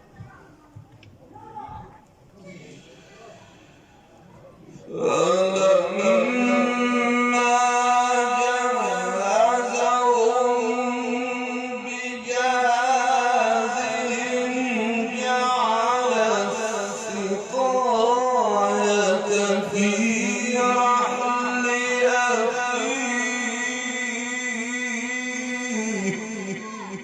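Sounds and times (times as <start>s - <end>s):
man reciting melodically: 4.7s - 27.0s.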